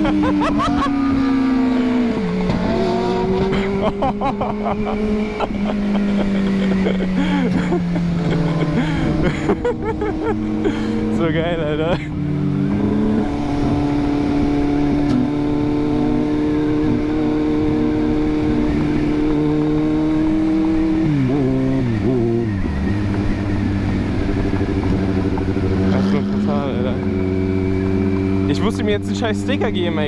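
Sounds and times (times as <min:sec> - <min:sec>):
car engine: 0:00.0 - 0:30.0
motorcycle engine: 0:00.0 - 0:30.0
road and wind noise: 0:00.0 - 0:30.0.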